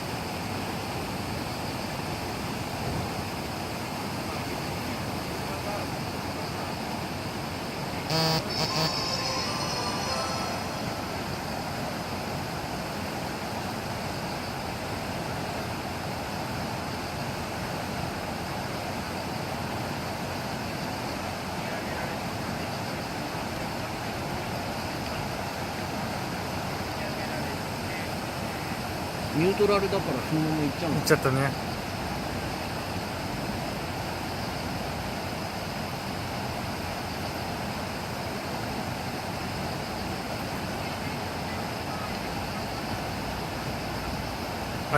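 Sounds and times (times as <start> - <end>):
heavy rain hissing: 0.0 - 44.9
wind: 0.0 - 44.9.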